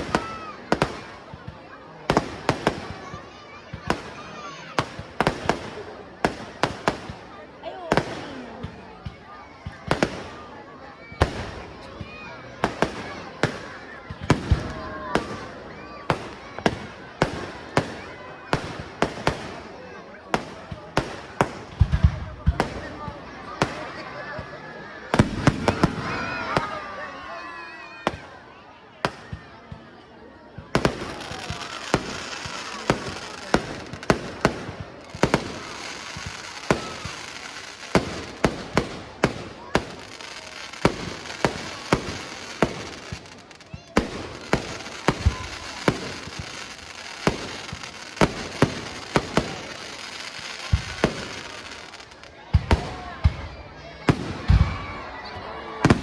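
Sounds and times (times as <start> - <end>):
fireworks bangs with crackling: 0.0 - 56.0.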